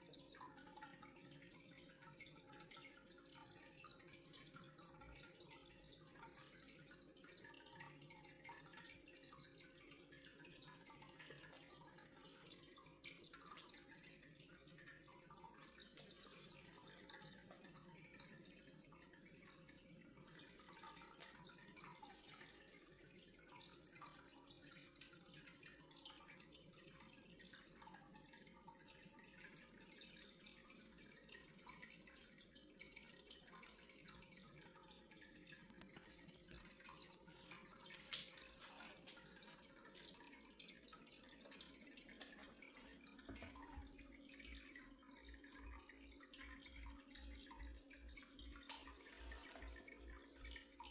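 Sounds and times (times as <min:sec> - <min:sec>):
water trickling and dripping: 0:00.0 - 0:50.9.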